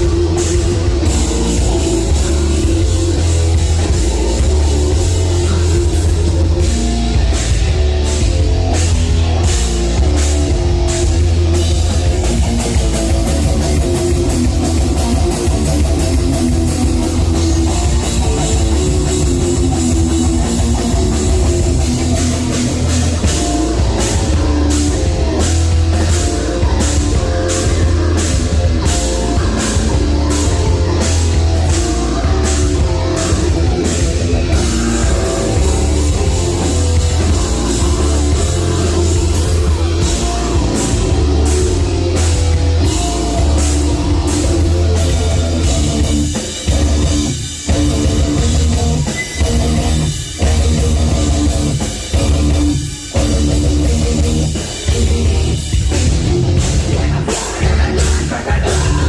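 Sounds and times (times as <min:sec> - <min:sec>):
distorted guitars: 0:00.0 - 0:59.0
heavy bass: 0:00.0 - 0:59.0
pounding drum kit: 0:00.0 - 0:59.0.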